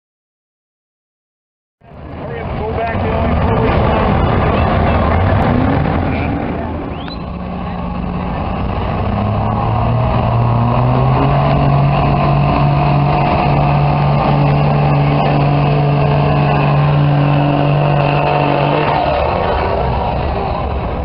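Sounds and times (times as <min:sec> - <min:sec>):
diesel engine under full load: 0:01.8 - 0:21.0.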